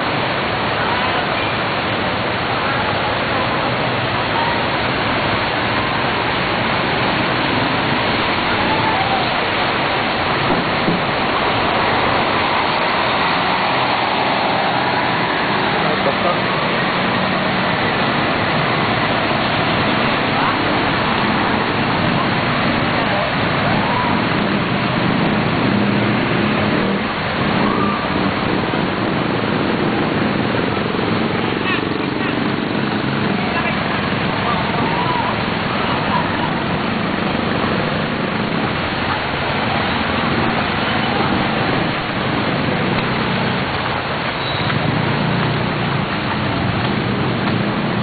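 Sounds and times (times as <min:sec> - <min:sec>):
bus wheels churning water: 0:00.0 - 0:48.0
floodwater rushing: 0:00.0 - 0:48.0
vehicle engines running: 0:00.0 - 0:48.0.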